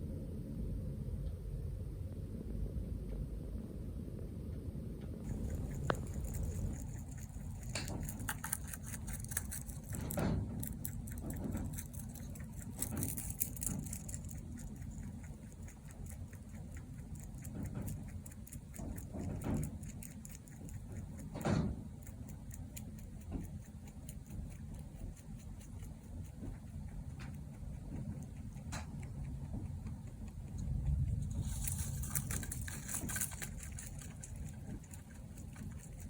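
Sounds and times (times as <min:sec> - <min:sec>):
low steady rumble: 0:00.0 - 0:36.0
rabbit snoring: 0:05.2 - 0:36.0.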